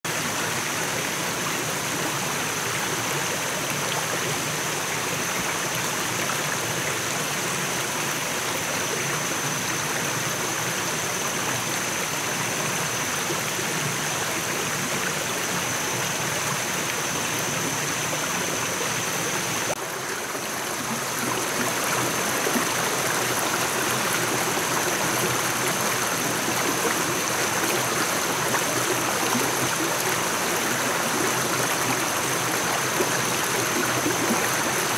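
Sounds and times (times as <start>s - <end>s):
stream running over rocks: 0.1s - 34.9s.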